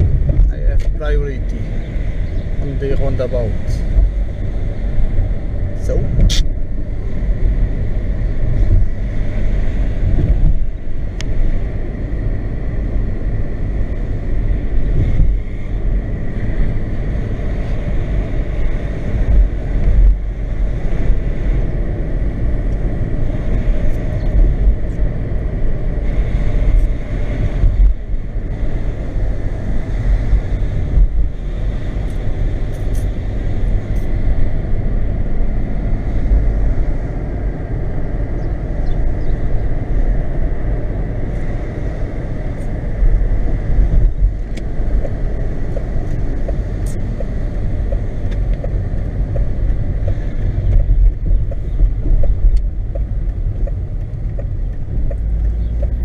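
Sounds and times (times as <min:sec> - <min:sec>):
car engine and tyre rumble: 0:00.0 - 0:56.0
wind buffeting car: 0:00.0 - 0:56.0.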